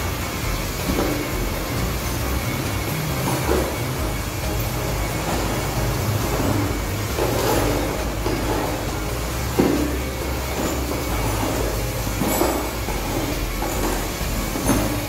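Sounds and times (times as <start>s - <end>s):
electric polisher humming: 0.0s - 15.0s.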